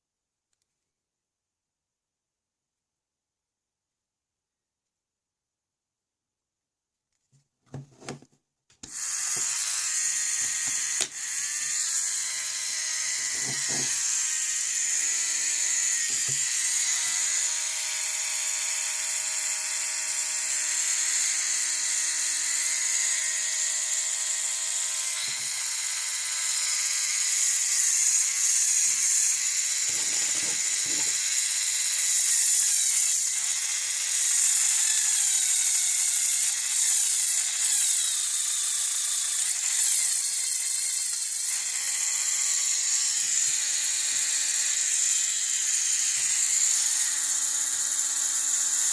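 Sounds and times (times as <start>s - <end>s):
toy motor whining: 8.8s - 48.9s.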